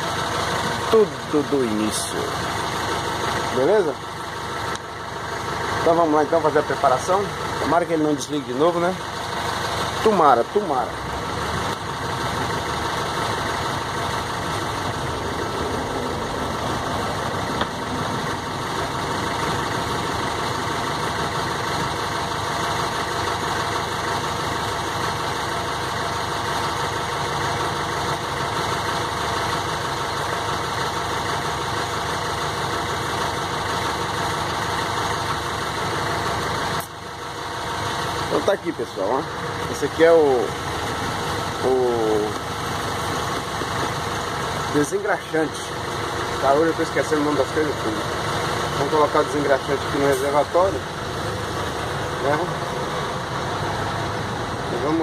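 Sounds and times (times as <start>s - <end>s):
steady mechanical drone: 0.0s - 55.0s.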